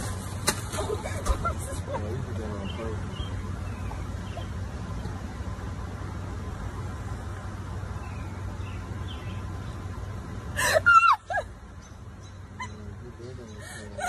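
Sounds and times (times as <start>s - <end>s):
low hum inside car cabin: 0.0s - 14.0s.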